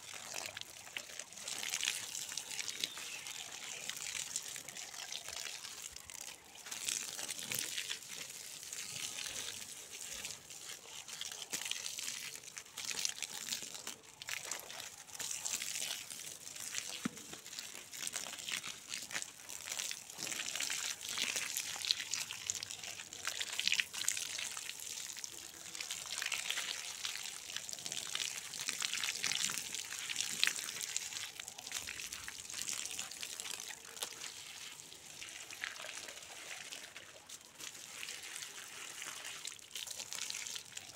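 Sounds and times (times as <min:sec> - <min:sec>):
hose water splashing on soil: 0:00.0 - 0:40.9.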